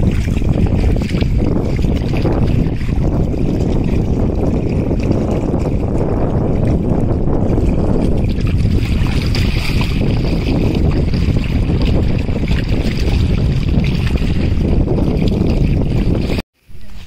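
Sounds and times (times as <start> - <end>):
small waves lapping against rocks: 0.0 - 14.6
wind buffeting microphone: 0.0 - 17.0.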